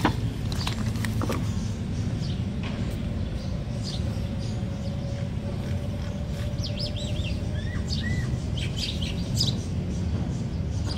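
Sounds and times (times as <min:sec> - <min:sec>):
small birds chirping and warbling: 0:00.0 - 0:10.9
steady low rumble: 0:00.0 - 0:10.9.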